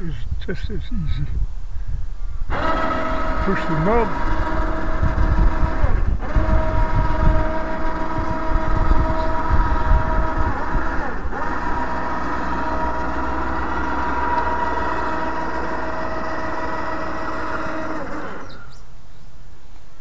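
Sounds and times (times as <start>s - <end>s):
electric motor whine: 2.5s - 18.9s.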